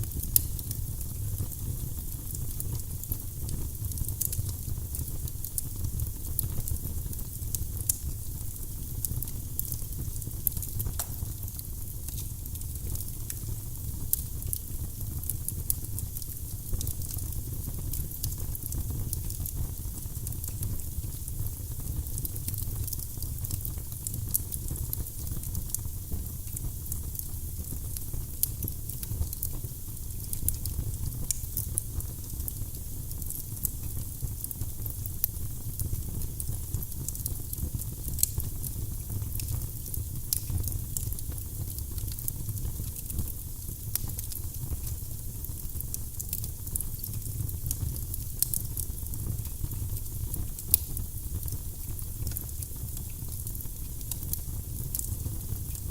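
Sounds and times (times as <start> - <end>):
burning logs crackling and popping: 0.0 - 55.9
fire rumbling and hissing: 0.0 - 55.9.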